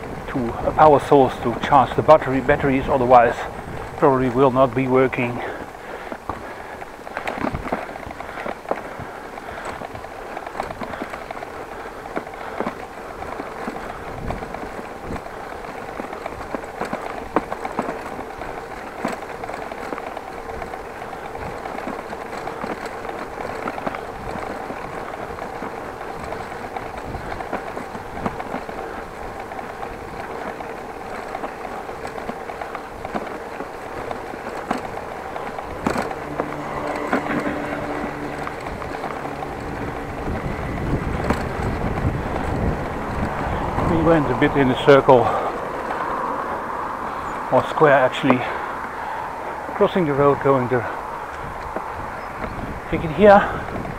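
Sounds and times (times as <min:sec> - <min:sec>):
bike rattling and clicking: 0:00.0 - 0:53.9
tyre rumble on brick paving: 0:00.0 - 0:53.9.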